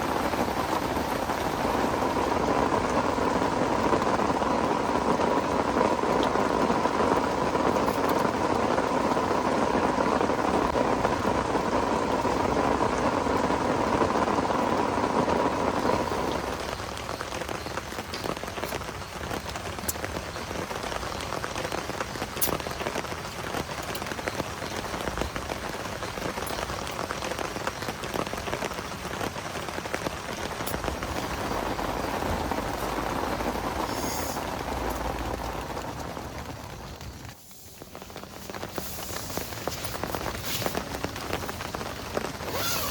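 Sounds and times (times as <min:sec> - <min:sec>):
heavy rain falling: 0:00.0 - 0:42.9
sharp raindrop ticks: 0:00.0 - 0:42.9.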